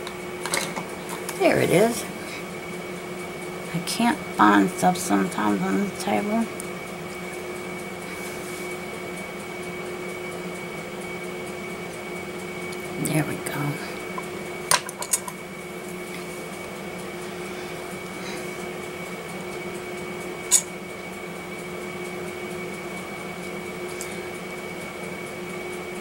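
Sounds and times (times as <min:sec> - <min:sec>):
room hum: 0:00.0 - 0:26.0.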